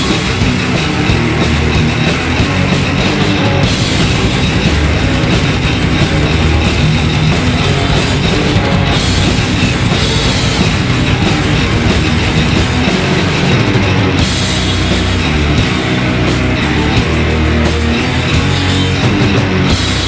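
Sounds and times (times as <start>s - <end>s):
bass guitar: 0.0s - 20.0s
distorted electric guitars: 0.0s - 20.0s
drum kit: 0.0s - 20.0s.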